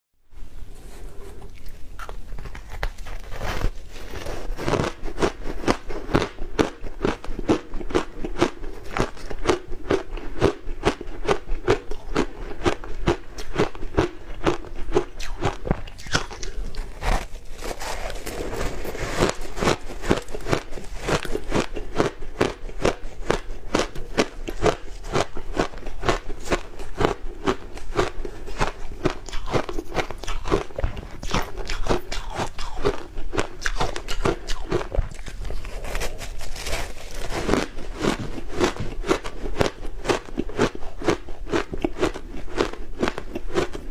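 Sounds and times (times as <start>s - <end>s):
ice being bitten and chewed: 1.0s - 43.9s.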